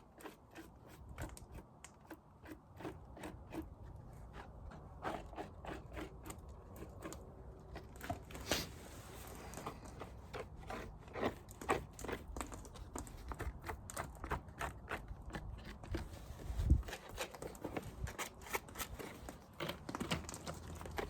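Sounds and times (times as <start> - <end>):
beeswax comb crunching and scraping: 0.0 - 21.0.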